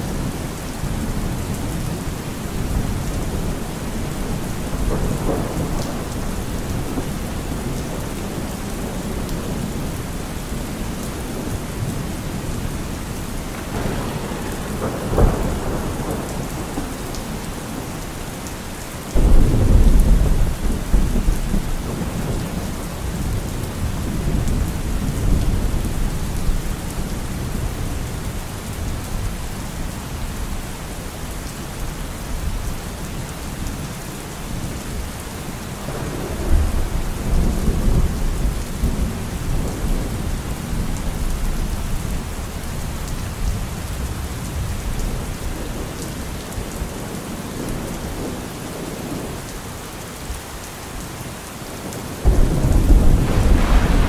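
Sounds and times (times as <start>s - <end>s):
rolling thunder: 0.0s - 29.3s, 35.8s - 49.4s, 52.2s - 54.0s
steady rain: 0.0s - 54.0s.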